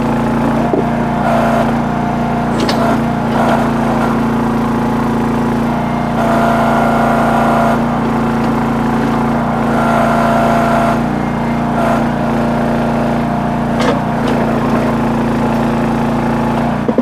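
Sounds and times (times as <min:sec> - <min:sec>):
hydraulic whine: 0:00.0 - 0:17.0
small engine running: 0:00.0 - 0:17.0.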